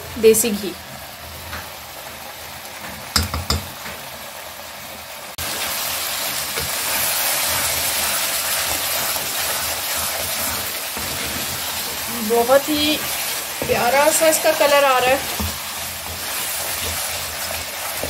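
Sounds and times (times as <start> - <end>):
chicken sizzling in a wok: 0.0 - 18.0.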